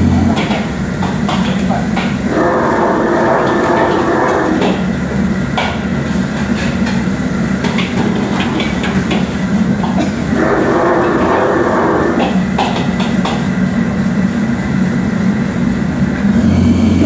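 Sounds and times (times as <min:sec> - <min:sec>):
wok burner rushing: 0:00.0 - 0:17.0.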